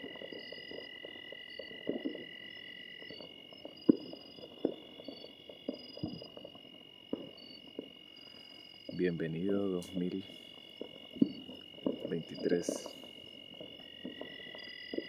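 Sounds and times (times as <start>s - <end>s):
distant fireworks bangs: 0.0s - 15.0s
insects chirring: 0.0s - 15.0s
low crackling rumble: 0.0s - 15.0s.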